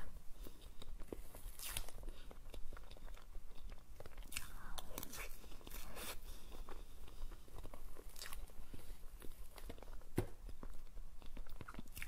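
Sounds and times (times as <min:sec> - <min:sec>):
person chewing cake: 0:00.0 - 0:12.0.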